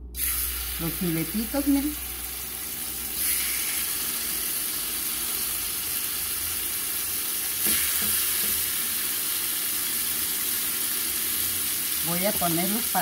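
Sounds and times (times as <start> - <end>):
chicken sizzling in frying pan: 0.2 - 13.0.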